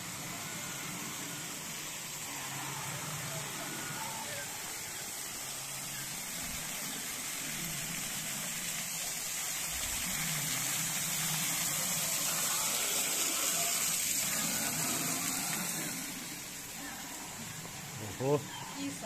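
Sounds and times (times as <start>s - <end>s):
waterfall splashing onto stones: 0.0s - 19.0s.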